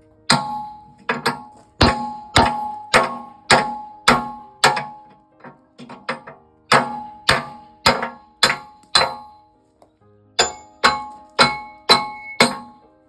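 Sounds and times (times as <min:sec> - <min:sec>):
hammer striking steel: 0:00.3 - 0:09.4, 0:10.4 - 0:12.9.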